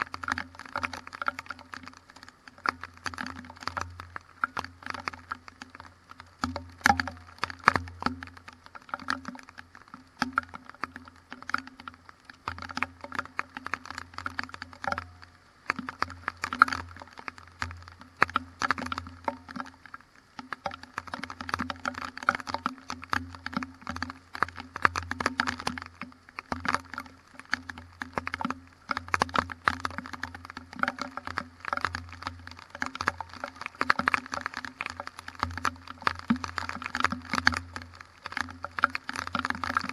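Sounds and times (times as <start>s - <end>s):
raindrops hitting microphone: 0.0s - 39.9s.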